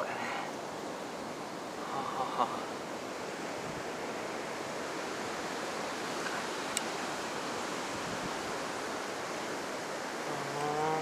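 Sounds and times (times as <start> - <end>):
heavy surf breaking on beach: 0.0 - 11.0.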